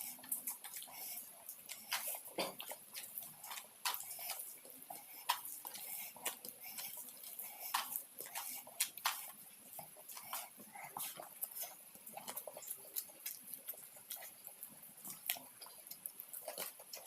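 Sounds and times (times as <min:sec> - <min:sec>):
wet chewing and lip smacks: 0:00.0 - 0:17.0.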